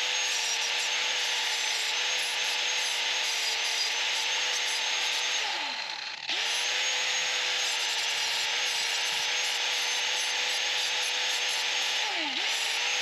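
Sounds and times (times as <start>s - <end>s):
power tool motor whine: 0.0s - 13.0s.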